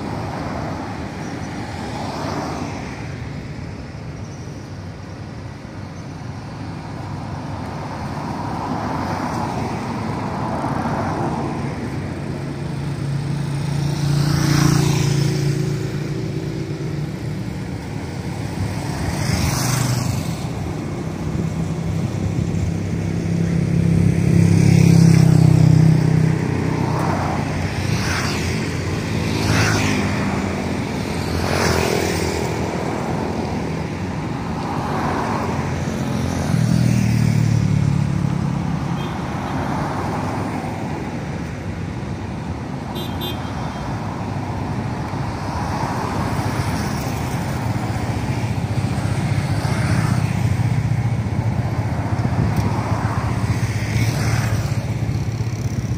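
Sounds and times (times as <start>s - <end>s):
traffic rumble: 0.0s - 55.9s
vehicles swishing past: 0.0s - 55.9s.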